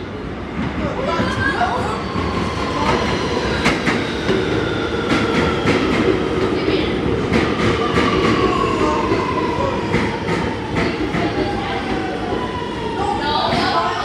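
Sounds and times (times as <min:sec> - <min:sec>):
subway train rumbling on rails: 0:00.0 - 0:14.0.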